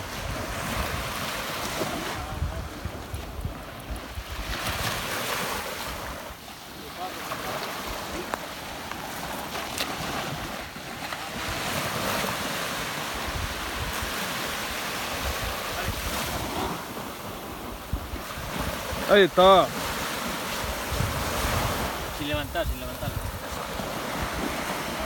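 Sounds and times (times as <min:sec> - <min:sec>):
wind buffeting microphone: 0:00.0 - 0:06.4, 0:07.8 - 0:25.0
sea waves breaking on beach: 0:00.0 - 0:25.0.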